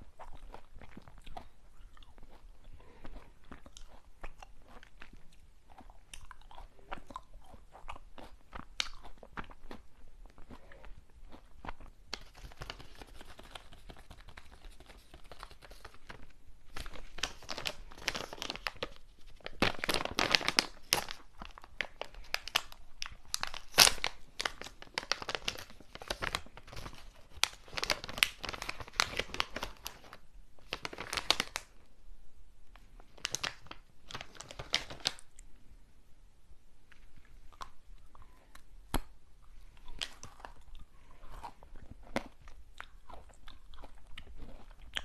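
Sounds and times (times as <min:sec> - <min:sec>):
snack wrapper crinkling and tearing: 0:00.1 - 0:31.7, 0:33.0 - 0:35.4, 0:39.7 - 0:45.0.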